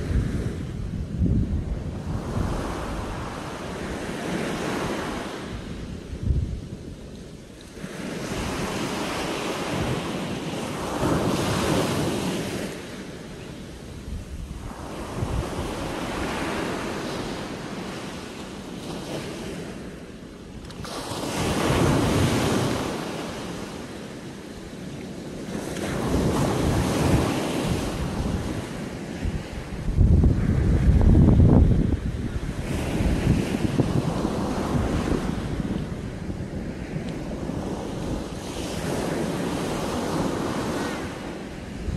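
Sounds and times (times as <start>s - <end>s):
waves breaking on sandy shore: 0.0s - 41.9s
wind buffeting microphone: 0.0s - 41.9s.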